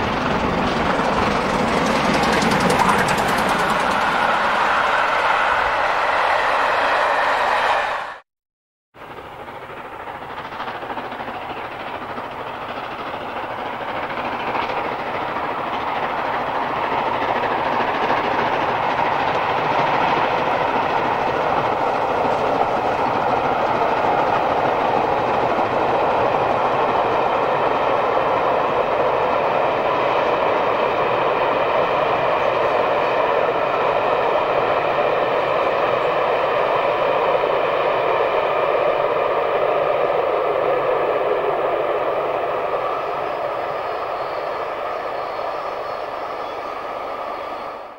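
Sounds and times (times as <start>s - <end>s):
steam locomotive hauling train: 0.0s - 8.2s, 9.0s - 47.9s.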